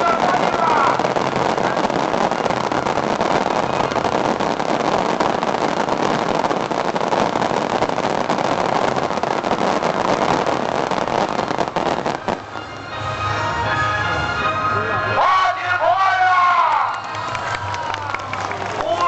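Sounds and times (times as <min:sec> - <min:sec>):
fireworks crackling: 0:00.0 - 0:14.7, 0:15.3 - 0:19.0.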